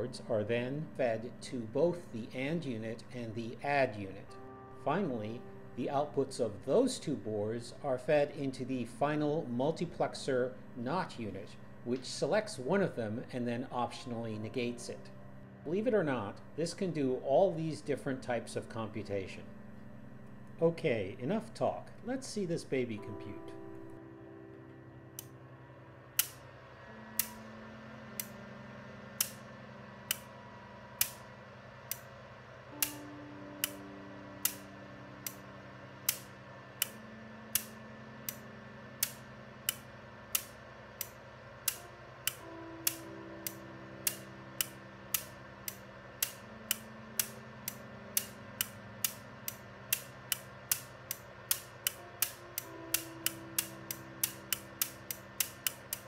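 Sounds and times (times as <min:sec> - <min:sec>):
soft background music: 0:00.0 - 0:56.0.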